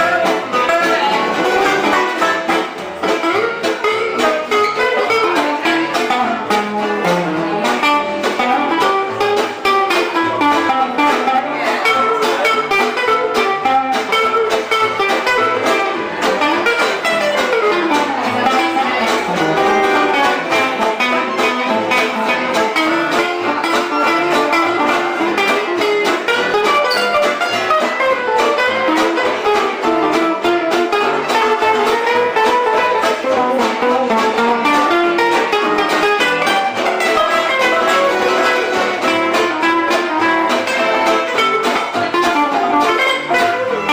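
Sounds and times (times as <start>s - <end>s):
live band playing: 0.0s - 43.9s
plucked guitar: 0.0s - 43.9s.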